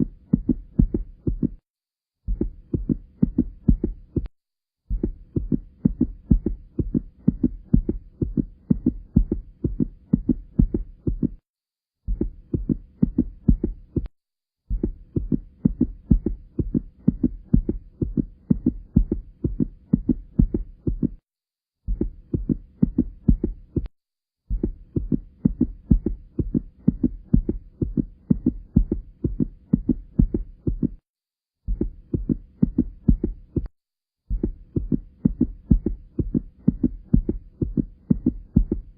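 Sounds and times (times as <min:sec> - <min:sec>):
human heartbeat: 0:00.0 - 0:01.6, 0:02.2 - 0:38.9.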